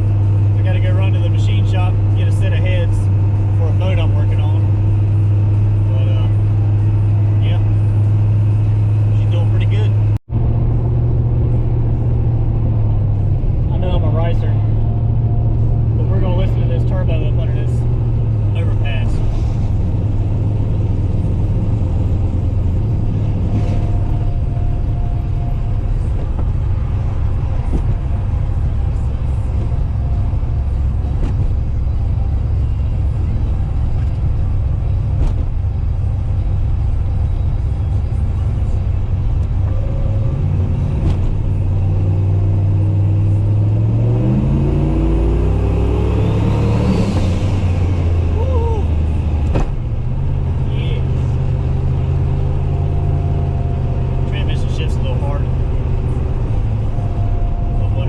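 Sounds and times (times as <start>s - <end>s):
car engine rumbling and revving: 0.0s - 58.0s.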